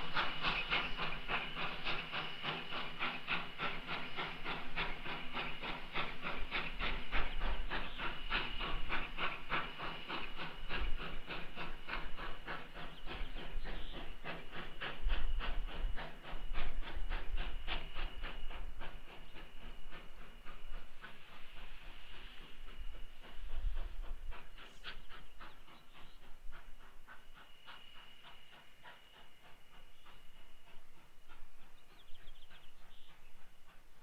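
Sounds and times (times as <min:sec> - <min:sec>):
steam hissing: 0:00.0 - 0:34.0
steam locomotive exhaust chuffs: 0:00.0 - 0:34.0.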